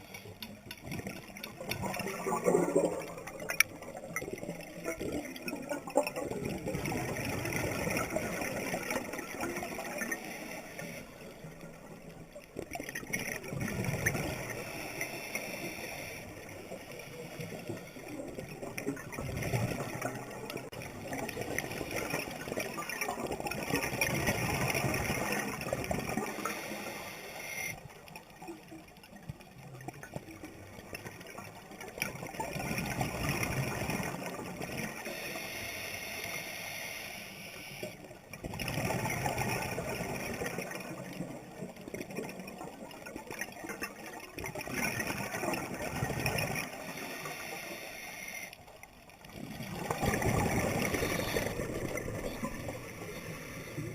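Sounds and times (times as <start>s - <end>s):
water sloshing and gurgling: 0.0s - 35.4s, 38.0s - 53.9s.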